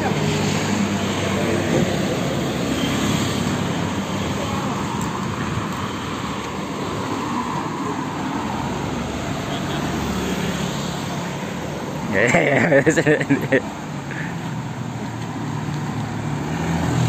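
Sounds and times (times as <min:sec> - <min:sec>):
vehicle engine noise: 0:00.0 - 0:17.0.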